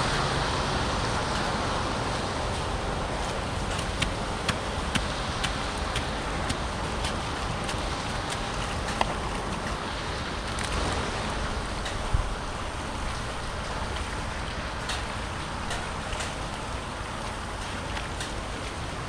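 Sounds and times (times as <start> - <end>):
floodwater rushing into culvert: 0.0 - 19.0.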